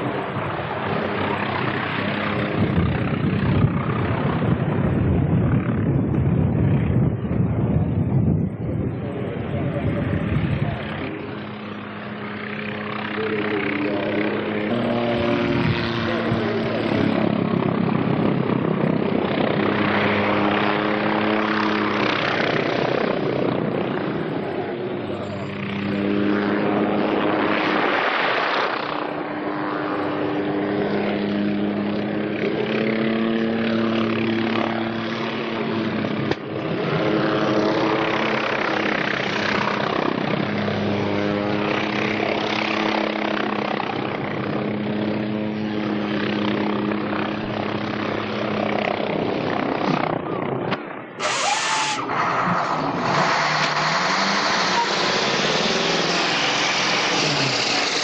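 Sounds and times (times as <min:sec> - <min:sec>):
helicopter flying low: 0:00.0 - 0:58.0.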